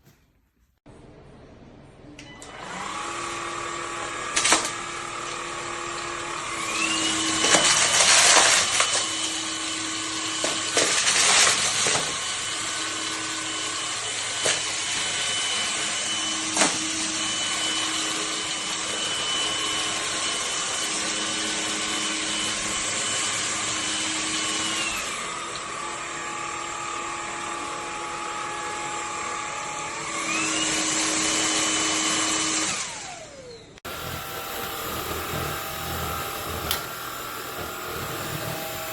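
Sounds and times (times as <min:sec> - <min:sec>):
vacuum motor whine: 0:02.2 - 0:38.9.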